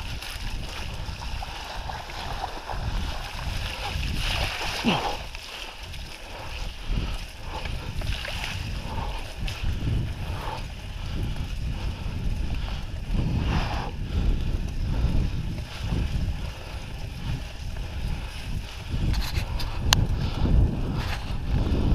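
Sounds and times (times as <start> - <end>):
bike tyres rolling on dirt: 0.0 - 21.9
wind buffeting microphone: 0.0 - 21.9.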